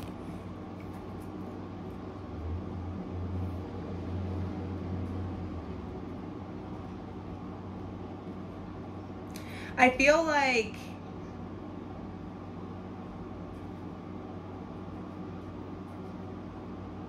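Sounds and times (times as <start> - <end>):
room noise hum and hiss: 0.0 - 17.0.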